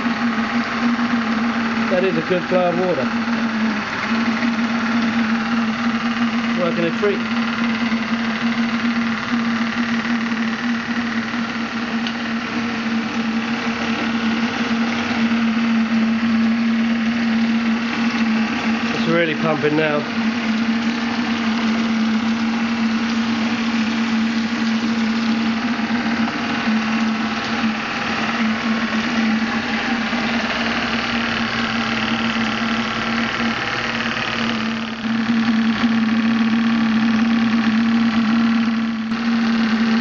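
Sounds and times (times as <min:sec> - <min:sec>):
steam engine hum with hiss: 0:00.0 - 0:40.0
water gushing into plastic bucket: 0:00.0 - 0:40.0.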